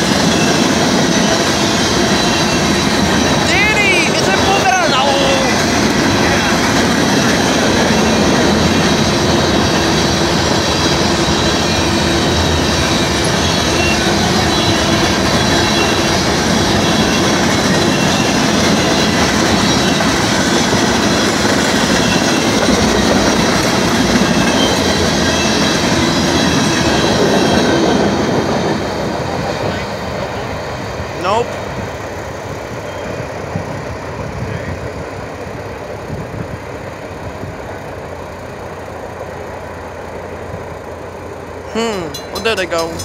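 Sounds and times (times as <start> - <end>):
freight train wheels on rail: 0.0 - 43.0.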